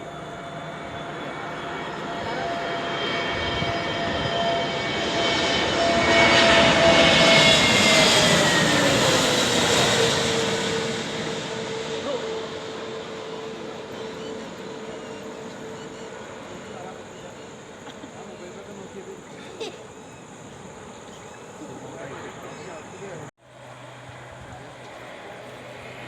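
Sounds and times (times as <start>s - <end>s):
airliner engine whine: 0.0s - 26.0s.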